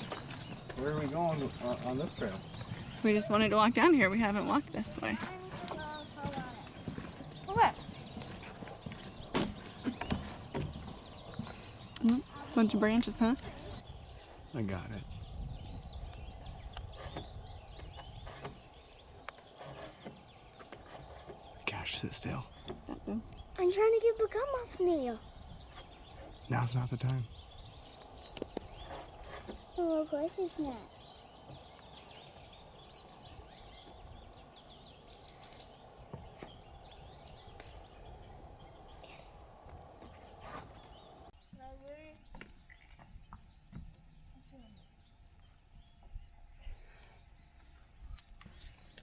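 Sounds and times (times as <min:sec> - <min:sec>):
songbirds chirping and singing: 0:00.0 - 0:49.0.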